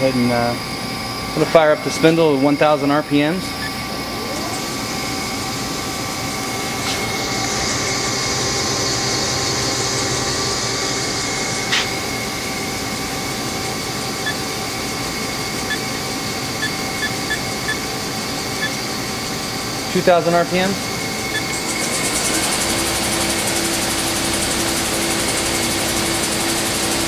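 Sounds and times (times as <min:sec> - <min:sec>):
lathe spindle humming and whining: 0:00.0 - 0:27.0.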